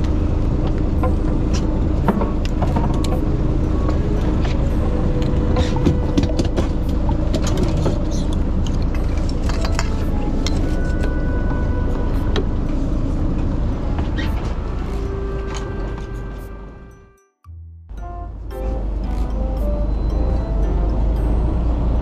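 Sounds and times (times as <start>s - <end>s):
boat engine droning: 0.0s - 17.2s, 18.0s - 22.0s.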